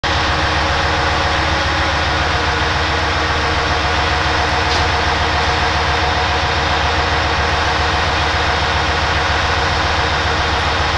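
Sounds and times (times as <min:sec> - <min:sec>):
diesel engines idling: 0:00.0 - 0:10.9.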